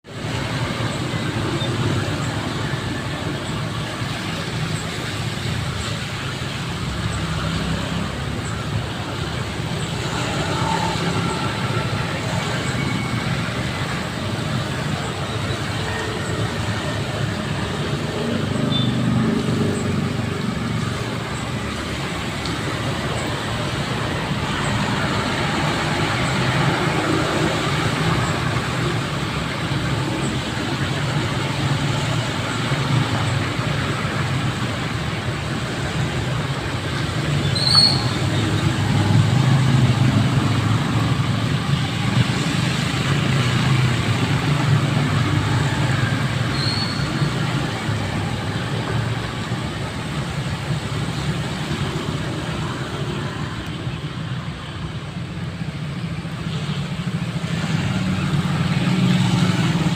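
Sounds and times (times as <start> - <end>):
traffic on wet road: 0.0 - 59.9.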